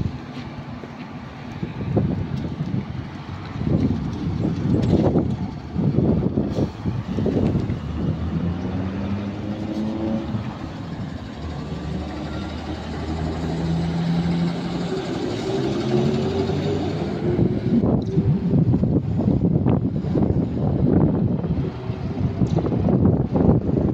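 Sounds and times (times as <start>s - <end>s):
tyre and road noise: 0.0s - 23.9s
wind buffeting microphone: 0.0s - 23.9s.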